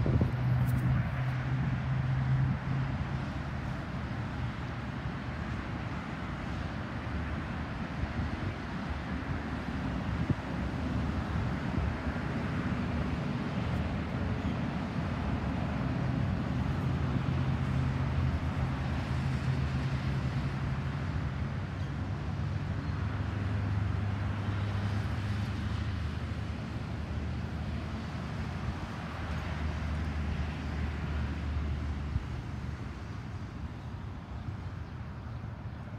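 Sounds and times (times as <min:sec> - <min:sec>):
vehicle engines humming: 0:00.0 - 0:35.9.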